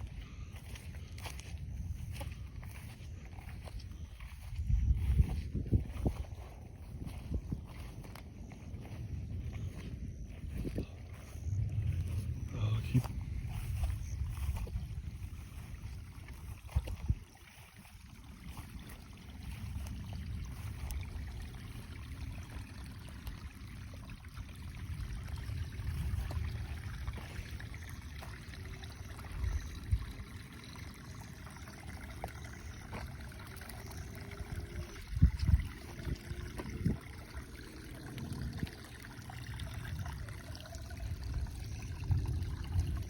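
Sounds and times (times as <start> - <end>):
water running and trickling: 0.0 - 43.0
wind rumble on microphone: 0.0 - 43.0.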